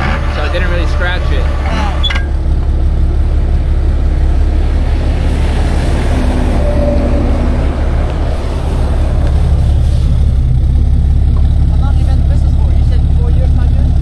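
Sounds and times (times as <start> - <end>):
tow truck engine idling: 0.0 - 14.0.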